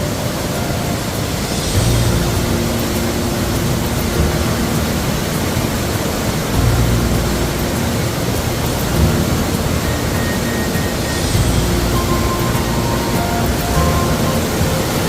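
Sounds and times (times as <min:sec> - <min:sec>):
mountain stream water rushing: 0:00.0 - 0:15.0.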